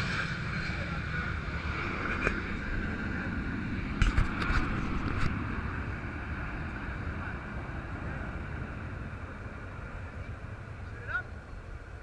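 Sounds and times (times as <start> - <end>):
low wind-like rumble: 0.0 - 12.0.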